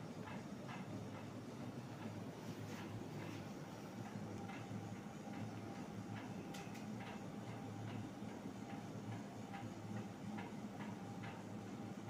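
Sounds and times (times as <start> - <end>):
ceiling fan motor hum: 0.0 - 12.0
fan ticking: 0.0 - 12.0.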